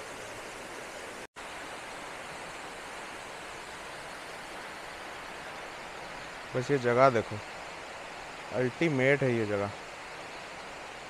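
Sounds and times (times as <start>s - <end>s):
waterfall rushing into pool: 0.0s - 11.0s.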